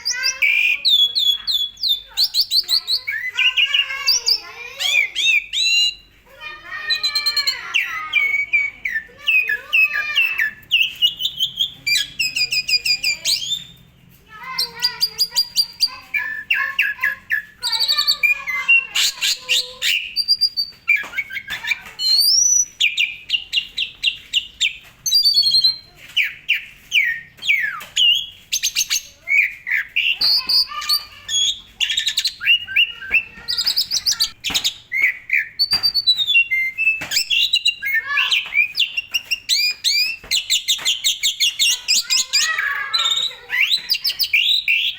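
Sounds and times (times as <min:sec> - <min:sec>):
starling singing: 0:00.0 - 0:44.9.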